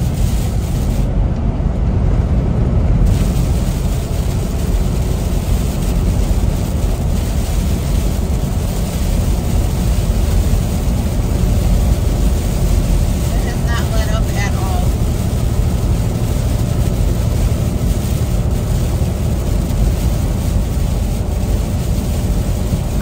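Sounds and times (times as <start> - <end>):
rain hissing on windshield: 0.0 - 23.0
truck engine and tyre rumble: 0.0 - 23.0.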